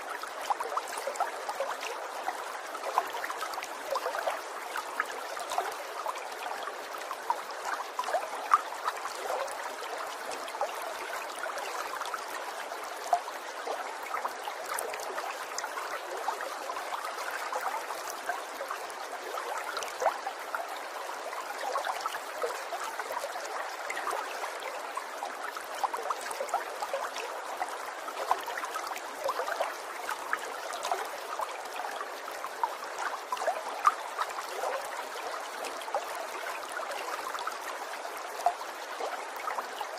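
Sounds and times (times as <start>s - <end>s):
water splashes and drips: 0.0s - 39.9s
water trickling: 0.0s - 39.9s.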